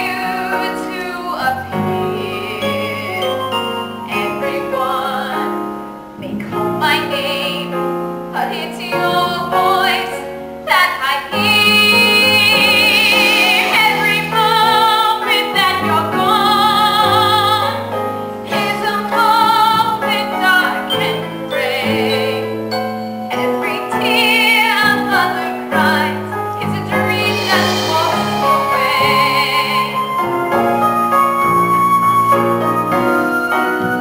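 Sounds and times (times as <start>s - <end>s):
woman singing a ballad: 0.0s - 3.5s, 4.1s - 22.7s, 23.3s - 30.6s
piano accompaniment: 0.0s - 34.0s.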